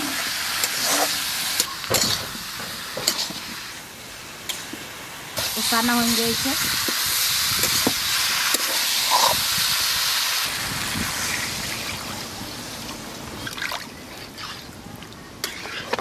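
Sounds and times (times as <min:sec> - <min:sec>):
food sizzling in pan: 0:00.0 - 0:12.8.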